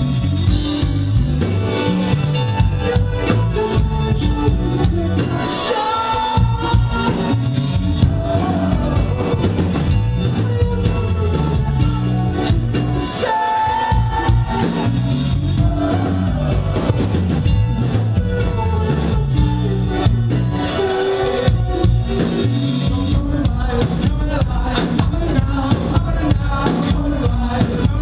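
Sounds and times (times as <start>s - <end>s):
heavy bass: 0.0s - 28.0s
live rock band playing: 0.0s - 28.0s
steady drum beat: 0.0s - 28.0s.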